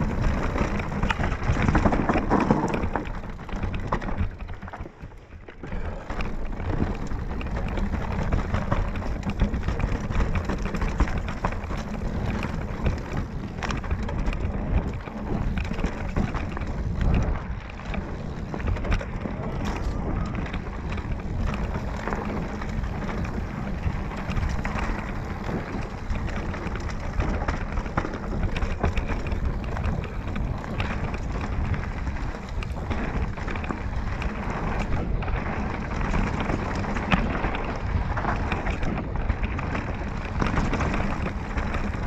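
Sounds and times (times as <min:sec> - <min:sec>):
bike frame and chain clattering: 0:00.0 - 0:42.0
bike tyres on dirt trail: 0:00.0 - 0:42.0
low rumble of wind: 0:00.0 - 0:42.0.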